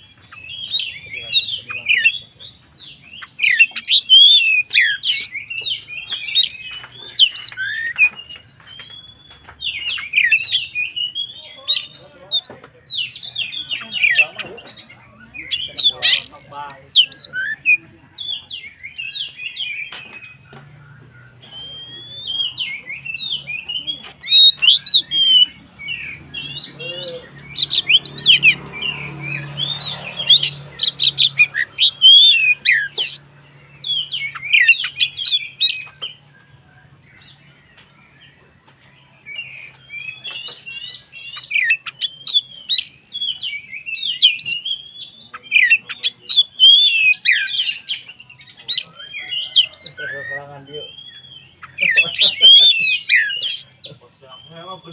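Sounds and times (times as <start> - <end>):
bird song with chirps and trills: 0.0 - 54.9.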